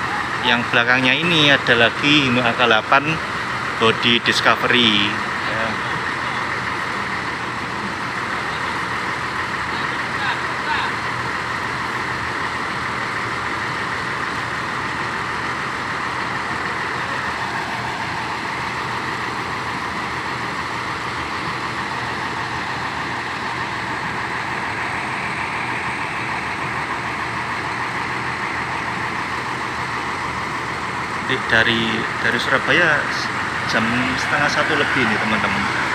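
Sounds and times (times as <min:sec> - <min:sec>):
diesel bus engine idling: 0:00.0 - 0:35.9.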